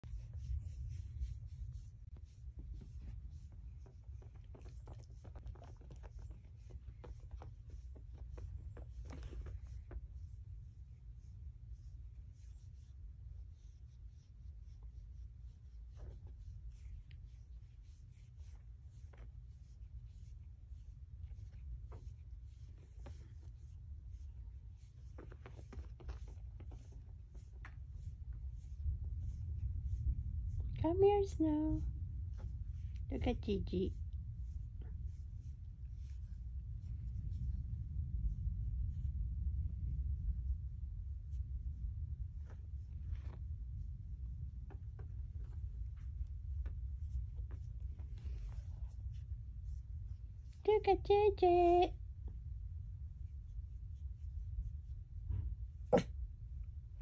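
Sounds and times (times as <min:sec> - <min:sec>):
foot rubbing dog fur: 0:00.0 - 0:39.4, 0:41.2 - 0:57.0
low steady rumble: 0:00.0 - 0:57.0.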